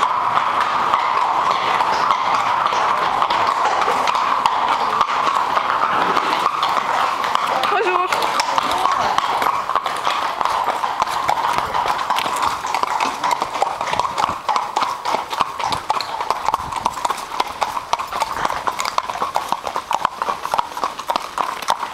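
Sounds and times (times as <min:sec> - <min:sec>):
horse hooves clip-clopping on pavement: 0:00.0 - 0:21.9.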